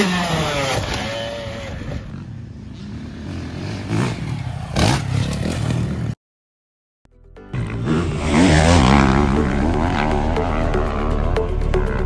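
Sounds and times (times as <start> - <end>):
motocross bike engine revving: 0.0 - 6.2, 7.6 - 12.0.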